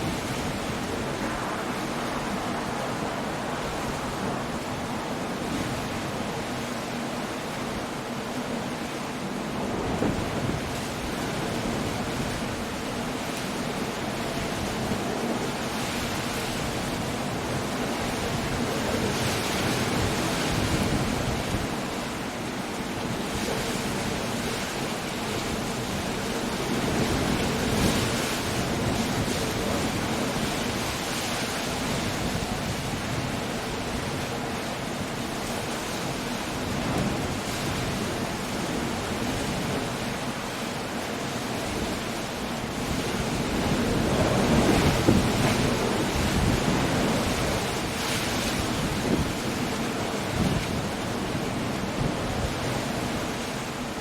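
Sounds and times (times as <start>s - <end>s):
breaking waves: 0.0s - 54.0s
rainfall: 0.0s - 54.0s
wind: 0.0s - 54.0s.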